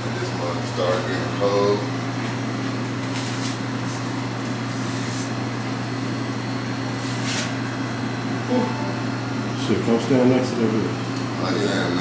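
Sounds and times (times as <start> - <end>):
vending machine humming: 0.0 - 12.0.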